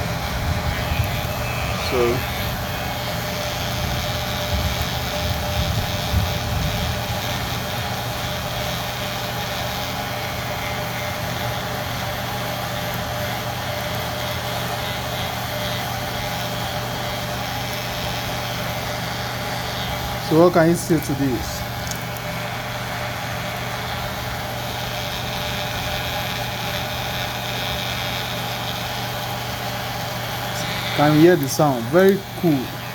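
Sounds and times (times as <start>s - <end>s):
electric hair clipper running: 0.0s - 32.9s.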